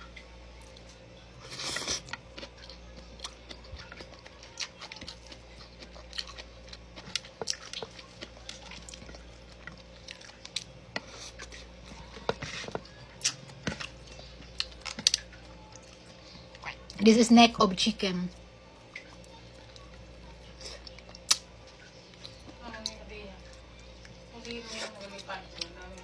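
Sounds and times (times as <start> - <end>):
person chewing food: 0.6 - 17.0, 18.3 - 26.0.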